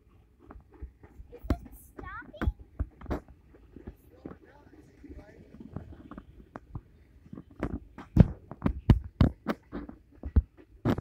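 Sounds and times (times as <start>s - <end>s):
wheels knocking over rail joints: 0.4s - 11.0s.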